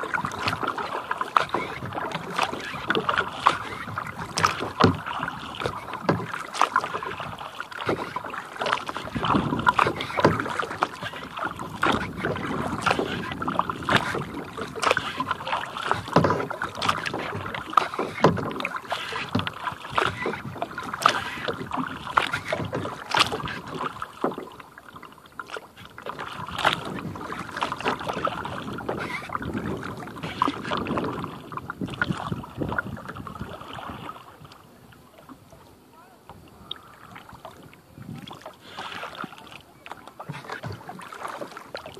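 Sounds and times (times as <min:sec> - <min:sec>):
paddle splashing in water: 0:00.0 - 0:41.9
water washing along hull: 0:00.0 - 0:41.9.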